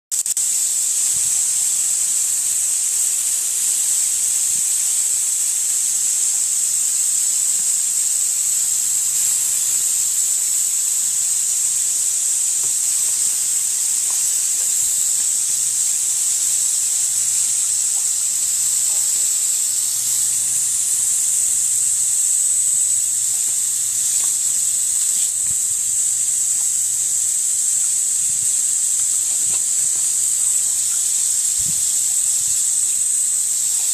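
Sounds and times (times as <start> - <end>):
hose nozzle spraying water: 0.1 - 33.9.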